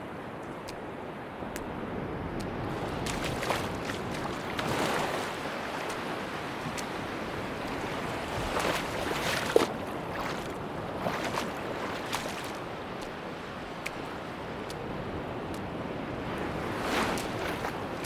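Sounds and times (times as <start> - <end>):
waves washing on beach: 0.0 - 18.0.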